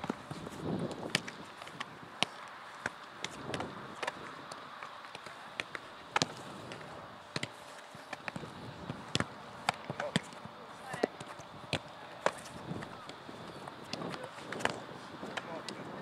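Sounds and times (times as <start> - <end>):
ball smacking goalkeeper gloves: 0.0 - 15.8.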